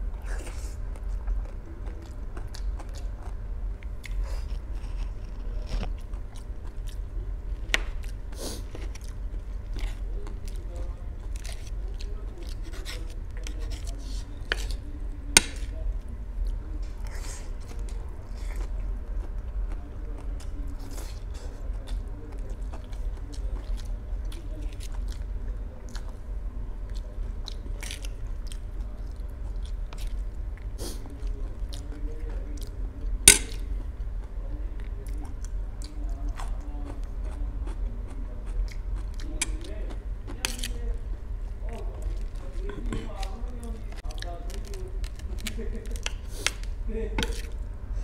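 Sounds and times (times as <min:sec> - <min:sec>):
person chewing noodles: 0:00.1 - 0:48.0.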